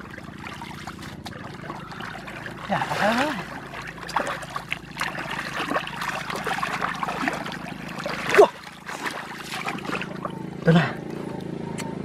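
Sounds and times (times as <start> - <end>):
small splashes and squelches: 0.0 - 11.1
hands sloshing in muddy water: 0.0 - 11.2.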